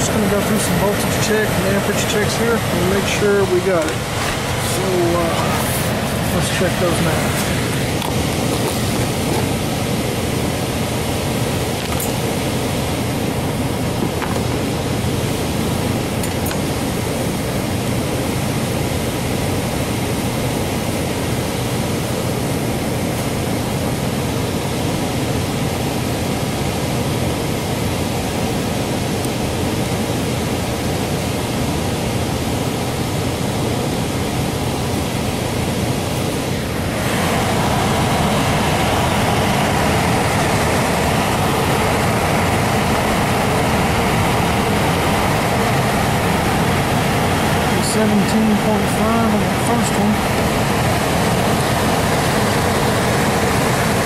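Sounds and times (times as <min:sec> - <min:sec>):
blower air rushing: 0:00.0 - 0:54.0.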